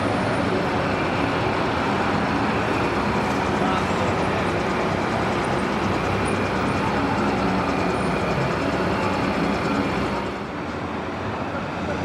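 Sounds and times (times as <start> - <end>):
vehicles driving slowly past: 0.0 - 12.0.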